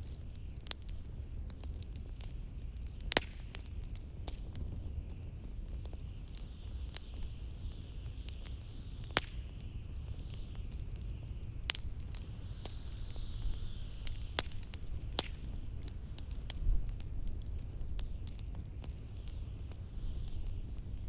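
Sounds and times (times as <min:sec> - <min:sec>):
wood fire crackling: 0:00.0 - 0:21.0
fire pops: 0:03.0 - 0:07.3, 0:08.2 - 0:21.0.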